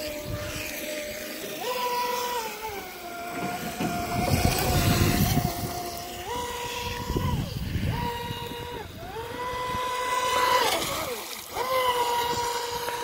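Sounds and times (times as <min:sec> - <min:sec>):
high motor whine: 0:00.0 - 0:13.0.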